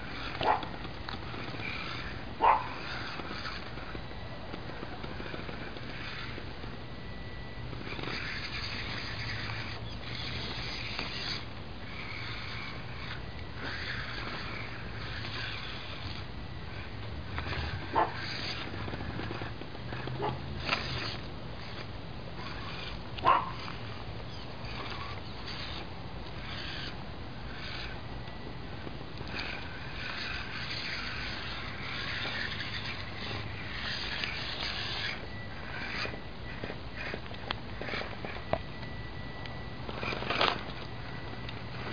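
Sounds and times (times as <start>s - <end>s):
low steady hum: 0.0s - 41.9s
rc car motor and gears whirring: 0.0s - 41.9s.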